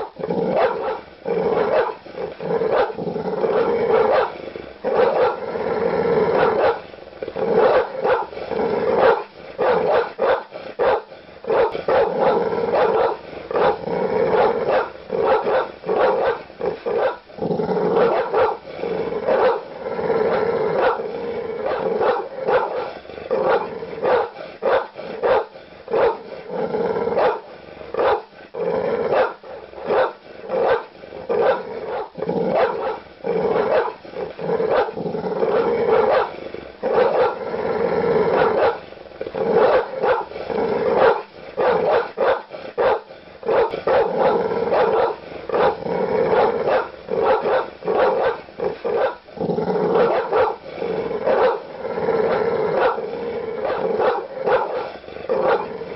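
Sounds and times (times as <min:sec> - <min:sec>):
large dog barking aggressively: 0:00.0 - 0:55.9.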